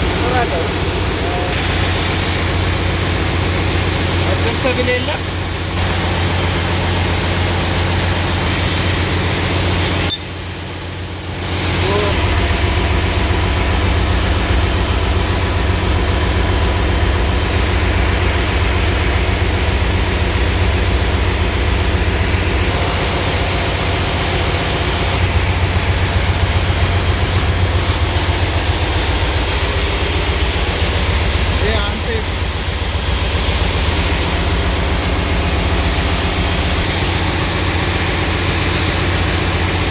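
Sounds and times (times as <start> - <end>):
generator engine misfiring: 0.0 - 39.9.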